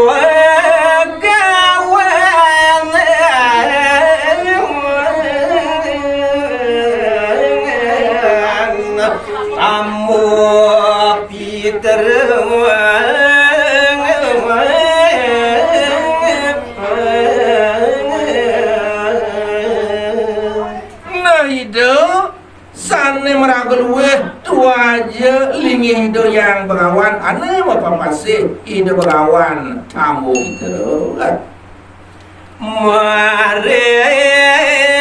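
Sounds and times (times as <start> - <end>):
man singing unaccompanied: 0.0 - 31.6, 32.5 - 35.0.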